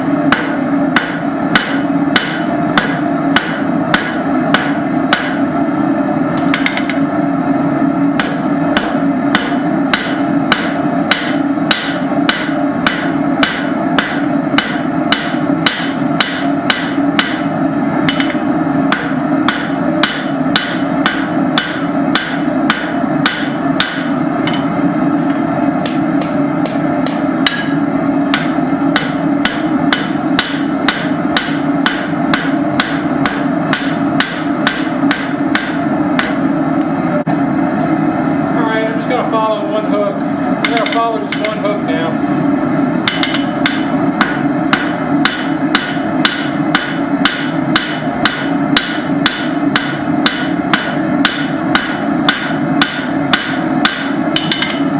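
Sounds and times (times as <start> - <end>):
steady hum: 0.0 - 54.9
hammer striking steel on anvil: 0.3 - 5.5, 6.4 - 7.1, 8.1 - 36.5, 40.6 - 41.6, 43.0 - 54.9.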